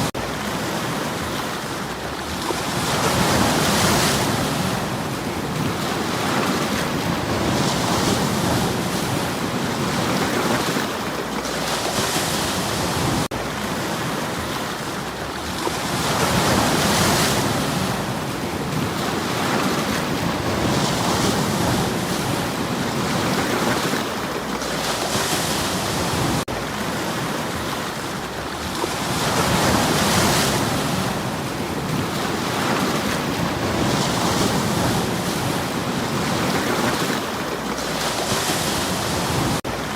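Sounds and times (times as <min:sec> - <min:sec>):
sea waves on stony shore: 0:00.0 - 0:39.9.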